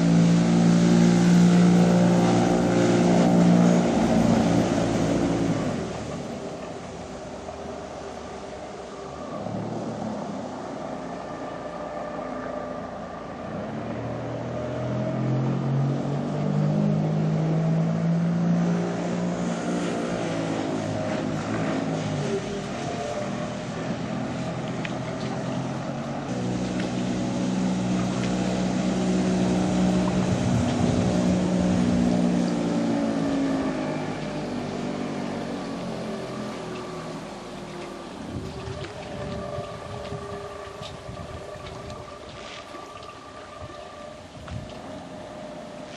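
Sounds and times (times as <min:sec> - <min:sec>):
motorboat engine running: 0:00.0 - 0:45.9.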